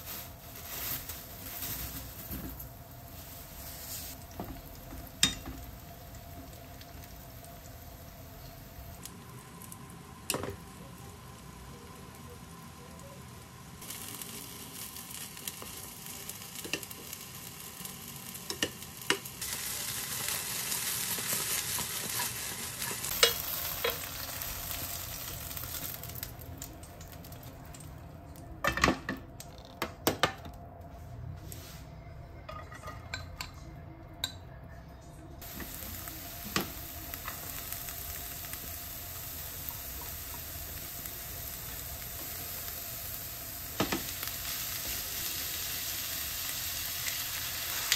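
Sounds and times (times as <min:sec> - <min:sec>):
food sizzling in oil: 0:00.0 - 0:27.4, 0:35.4 - 0:47.9.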